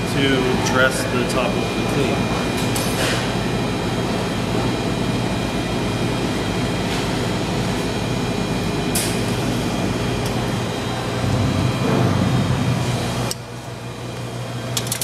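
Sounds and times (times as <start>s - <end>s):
machinery hum and whirr: 0.0s - 15.0s.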